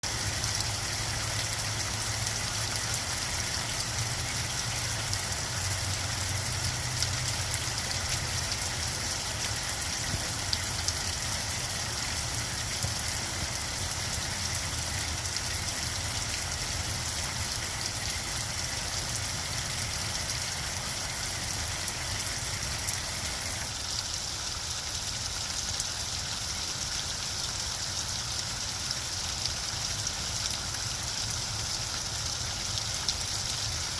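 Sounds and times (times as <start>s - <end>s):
rain shower patter: 0.0s - 33.9s.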